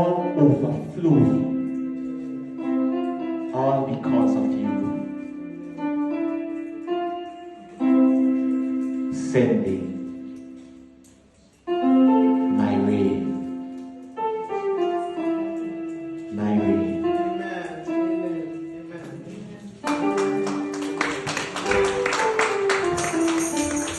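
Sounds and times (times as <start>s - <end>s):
slow piano chords ringing: 0.0s - 23.9s.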